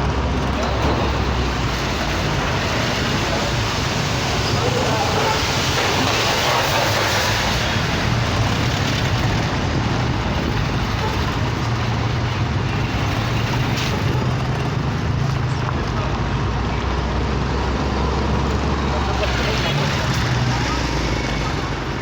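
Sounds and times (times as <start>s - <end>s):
car engine hum: 0.0s - 22.0s
road noise: 0.0s - 22.0s.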